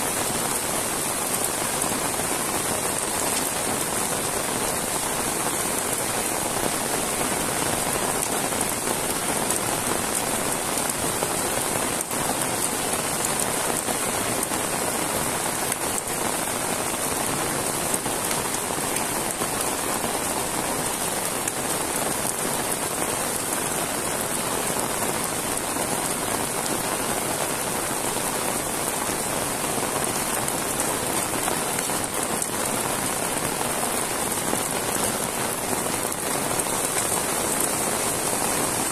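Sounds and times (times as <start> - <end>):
heavy rain on road: 0.0 - 38.9.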